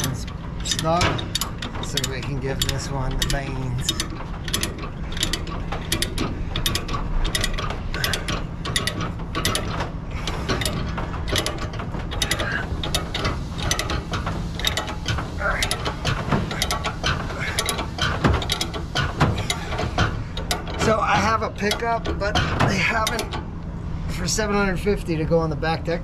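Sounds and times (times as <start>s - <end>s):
ratchet tie-down clicking: 0.0s - 23.5s.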